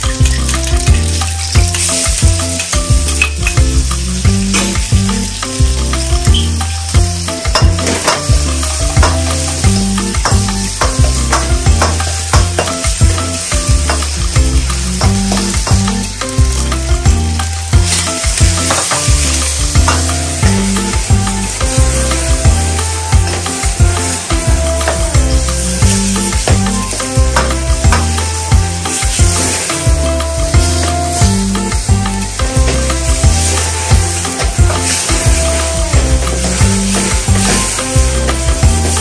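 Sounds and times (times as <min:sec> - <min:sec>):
music with steady bass line: 0:00.0 - 0:39.0
onions sizzling in a wok: 0:00.0 - 0:39.0.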